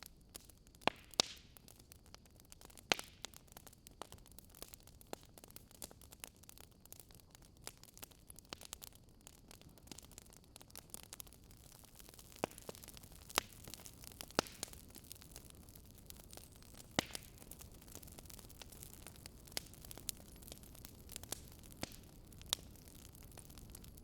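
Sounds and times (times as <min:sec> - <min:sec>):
faint steady hiss: 0:00.0 - 0:24.0
wood fire crackling: 0:00.0 - 0:24.0.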